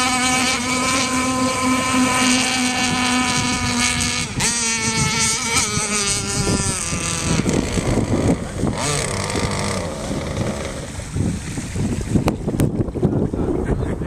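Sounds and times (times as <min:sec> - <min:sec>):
model boat engine high revs: 0:00.0 - 0:12.3
wind noise on microphone: 0:00.0 - 0:14.0.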